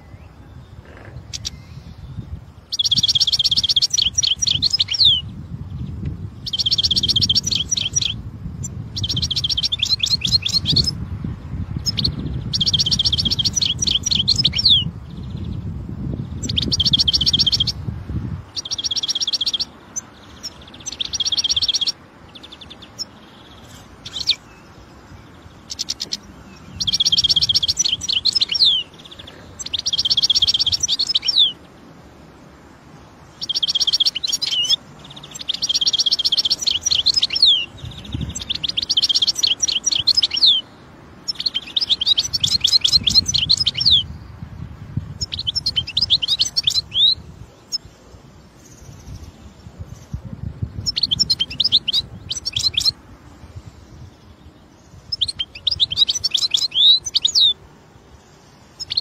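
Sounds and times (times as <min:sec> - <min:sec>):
finch singing trills: 0:00.0 - 0:11.1, 0:11.7 - 0:31.9, 0:33.2 - 0:59.0.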